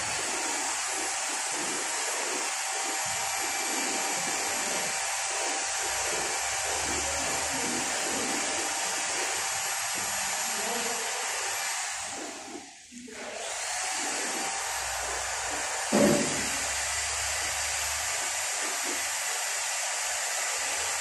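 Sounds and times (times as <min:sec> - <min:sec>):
torch flame hissing: 0:00.0 - 0:19.5.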